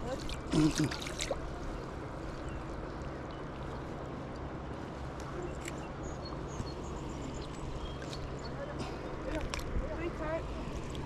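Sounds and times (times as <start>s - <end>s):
river water noise: 0.0s - 11.0s.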